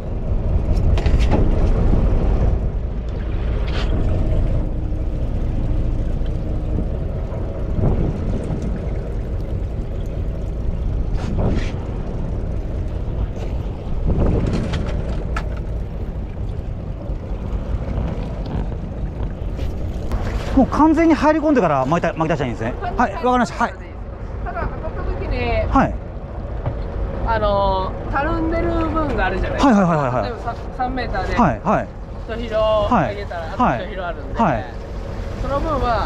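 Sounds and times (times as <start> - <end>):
boat engine rumbling: 0.0 - 36.0.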